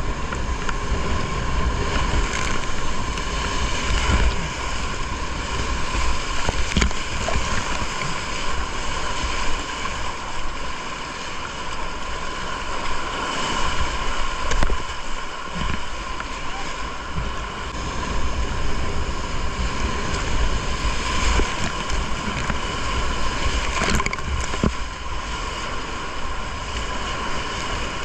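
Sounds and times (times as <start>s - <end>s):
waves splashing over bow: 0.0s - 28.0s
whitewater rapids rushing: 0.0s - 28.0s.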